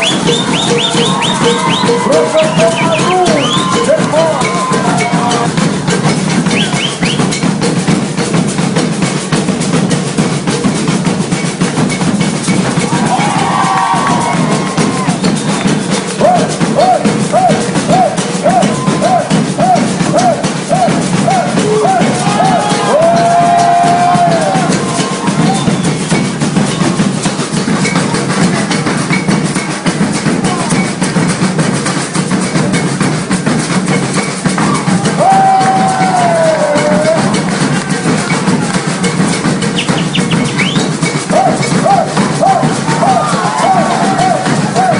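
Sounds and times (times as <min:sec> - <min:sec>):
bass drums and snare rolls: 0:00.0 - 0:44.9.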